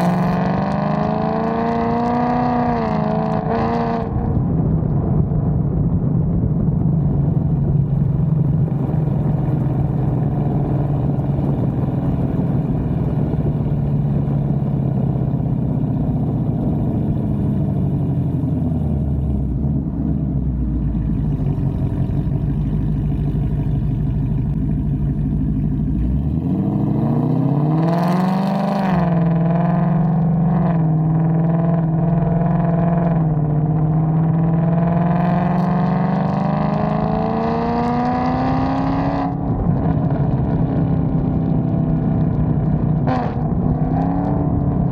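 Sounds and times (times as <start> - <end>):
car exhaust drone: 0.0 - 44.9.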